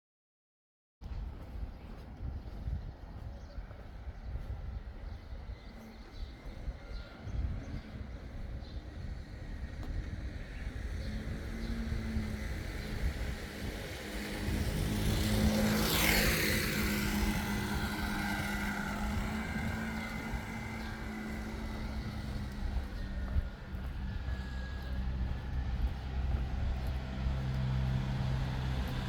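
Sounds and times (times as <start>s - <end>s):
vehicle passing by: 5.1s - 29.0s.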